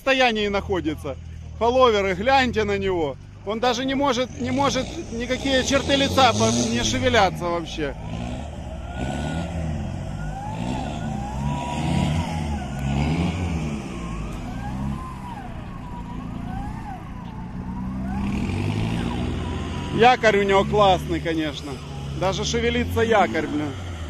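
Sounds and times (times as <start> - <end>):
engine revving: 3.6 - 24.0.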